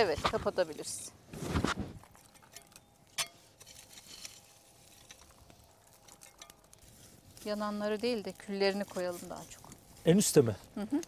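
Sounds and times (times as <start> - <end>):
rustling scrape: 0.0 - 2.6, 3.2 - 10.6.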